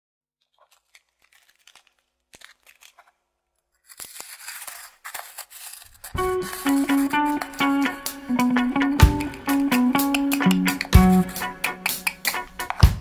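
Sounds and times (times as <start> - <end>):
crackling and crinkling: 0.4 - 13.0.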